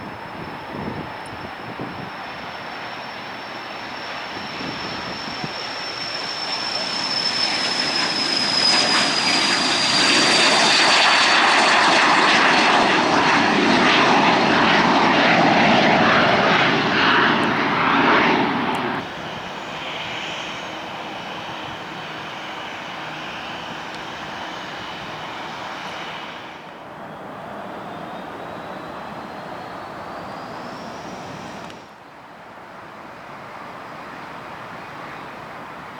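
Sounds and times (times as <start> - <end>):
jet engines roaring and whining: 0.0 - 35.9.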